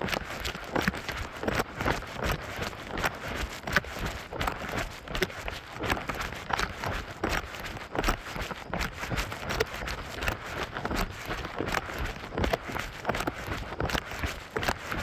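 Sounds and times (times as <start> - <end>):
footsteps on a path: 0.0 - 15.0.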